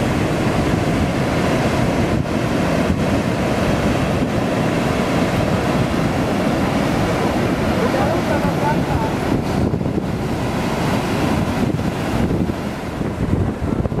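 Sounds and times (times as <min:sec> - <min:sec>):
ocean surf roaring over rocks: 0:00.0 - 0:14.0.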